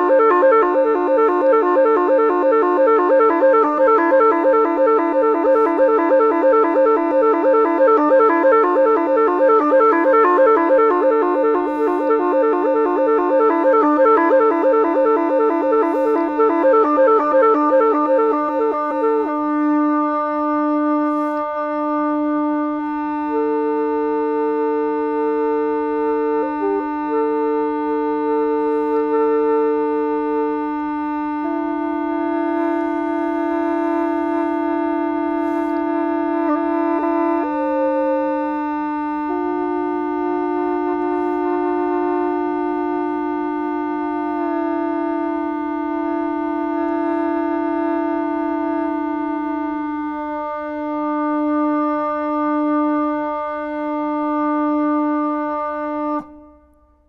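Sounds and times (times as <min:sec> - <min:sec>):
gourd flute melody with drone: 0:00.0 - 0:57.0.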